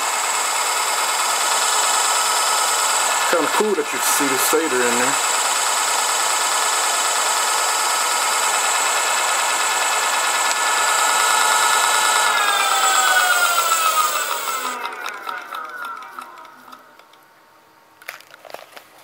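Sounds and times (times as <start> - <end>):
electric motor whining: 0.0 - 17.4.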